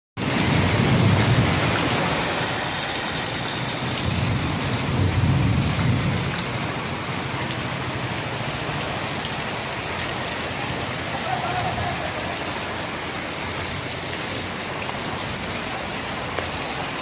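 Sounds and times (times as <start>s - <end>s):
heavy rain pouring: 0.2s - 17.0s.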